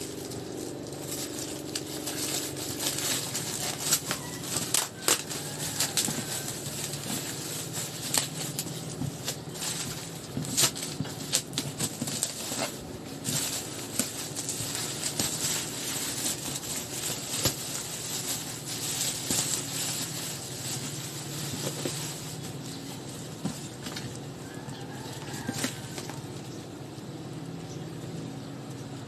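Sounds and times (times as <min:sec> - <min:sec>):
packaging rustling and crinkling: 0:00.0 - 0:26.8.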